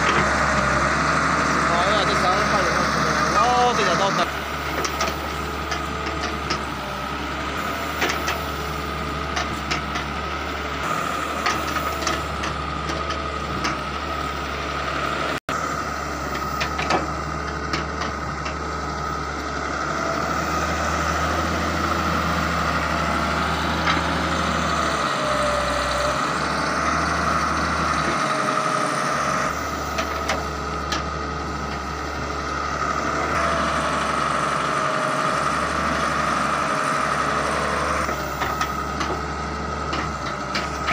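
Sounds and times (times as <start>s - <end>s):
excavator diesel engine running: 0.0s - 40.9s
soil and brick clanking: 0.0s - 40.9s.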